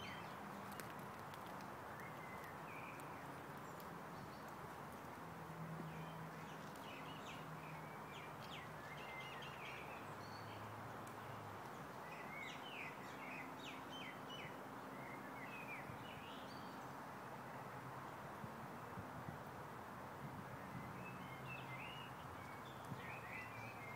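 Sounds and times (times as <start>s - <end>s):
small birds chirping: 0.0s - 17.8s, 20.6s - 23.9s.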